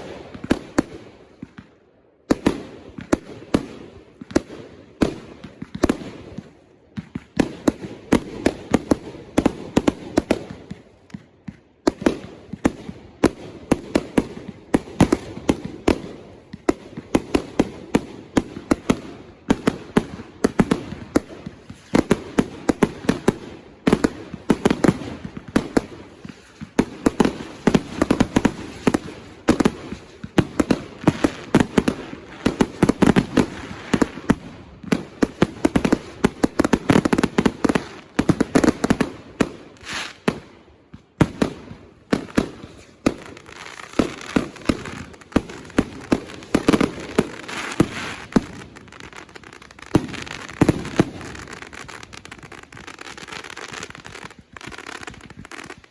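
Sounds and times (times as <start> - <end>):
fireworks bangs and pops: 0.0 - 55.9.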